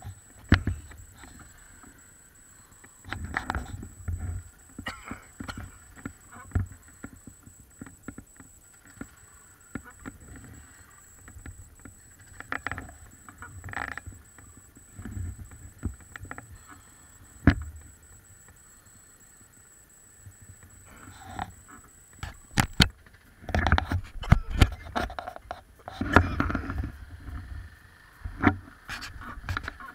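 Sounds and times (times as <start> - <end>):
faint high whine: 0.0 - 29.9.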